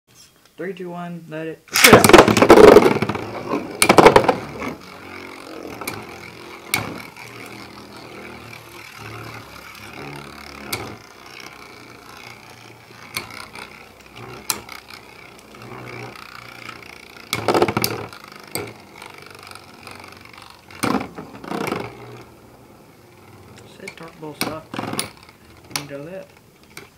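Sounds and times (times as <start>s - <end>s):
spinning tops clacking together: 1.7s - 26.9s
spinning tops launched with rip: 1.7s - 26.9s
spinning tops whirring: 1.7s - 26.9s.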